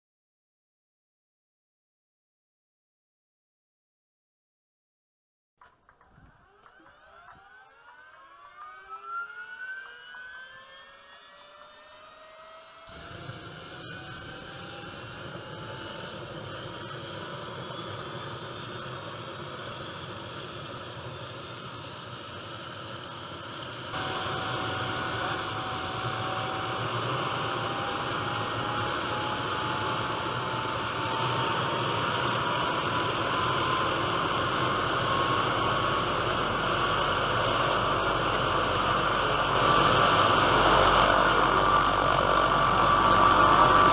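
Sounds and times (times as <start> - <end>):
helicopter turbine spooling up: 6.0 - 43.9.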